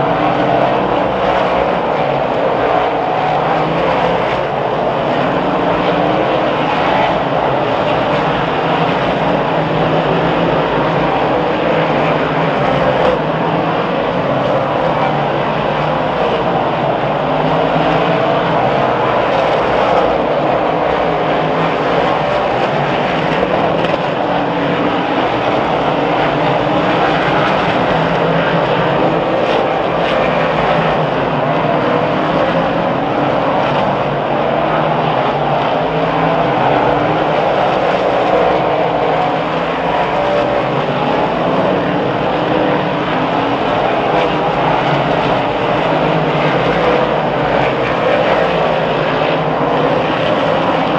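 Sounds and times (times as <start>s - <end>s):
race car engines droning: 0.0s - 50.9s.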